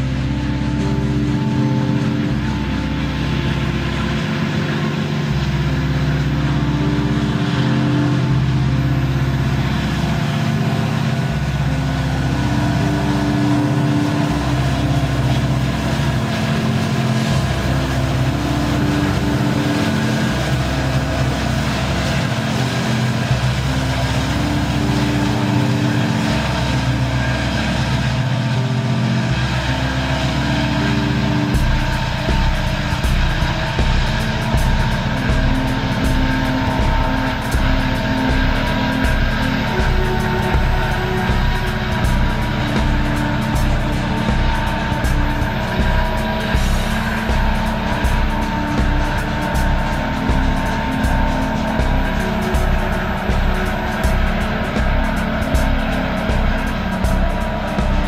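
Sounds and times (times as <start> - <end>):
diesel locomotive engine drone: 0.0 - 58.0
steel wheels rumbling on rail: 0.0 - 58.0.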